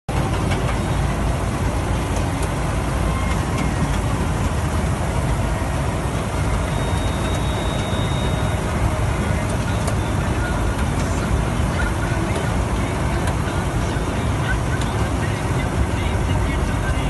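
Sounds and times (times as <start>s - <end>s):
combine harvester engine rumble: 0.1s - 17.0s.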